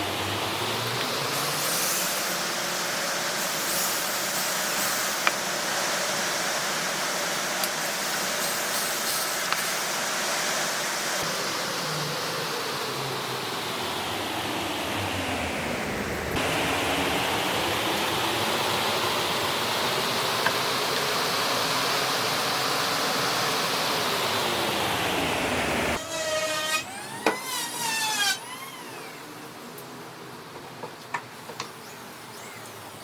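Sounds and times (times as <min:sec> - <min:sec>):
power tool running on wood: 0:00.0 - 0:29.4.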